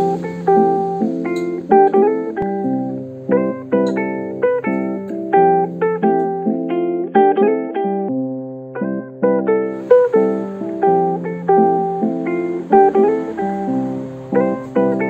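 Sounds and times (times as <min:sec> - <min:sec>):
plucked guitar melody: 0:00.0 - 0:15.0.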